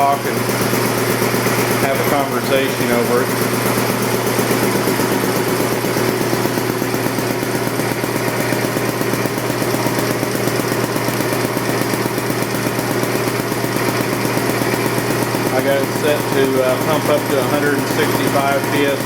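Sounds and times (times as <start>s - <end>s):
air compressor pulsing: 0.0s - 19.0s.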